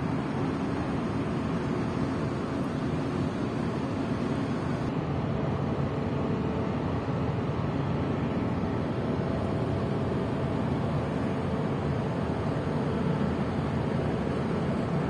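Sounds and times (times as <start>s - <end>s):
faint steady hums: 0.0s - 15.0s.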